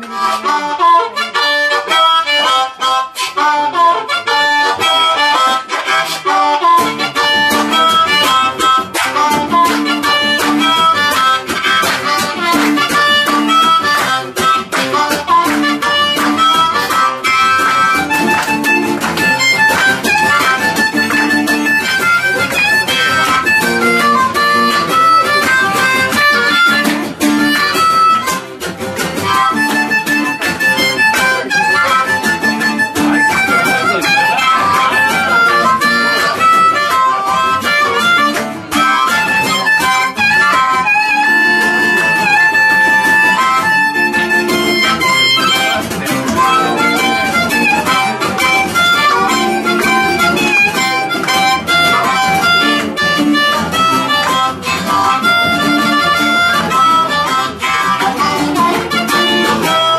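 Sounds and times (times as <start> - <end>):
harmonica solo: 0.0 - 59.9
strummed acoustic guitar: 0.0 - 59.9.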